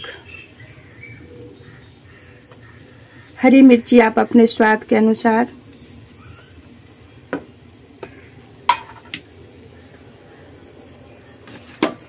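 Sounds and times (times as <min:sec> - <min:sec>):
dosa sizzling on hot iron griddle: 0:00.1 - 0:12.0.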